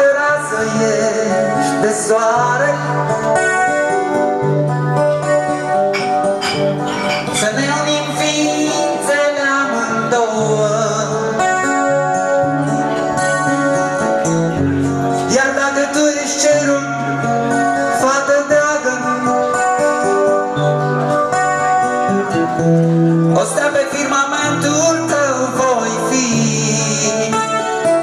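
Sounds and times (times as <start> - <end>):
man singing: 0.0 - 4.6, 7.2 - 22.6, 23.2 - 28.0
acoustic guitar strumming: 0.0 - 28.0.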